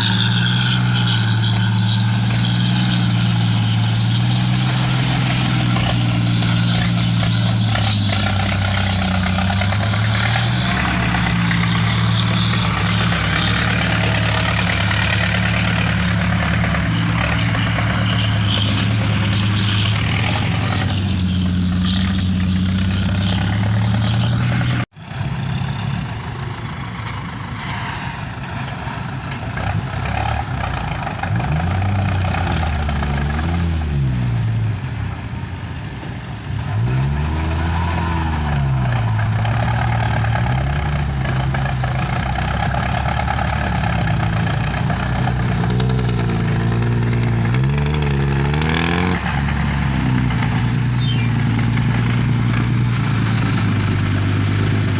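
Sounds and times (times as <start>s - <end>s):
diesel engine running and revving: 0.0s - 54.9s.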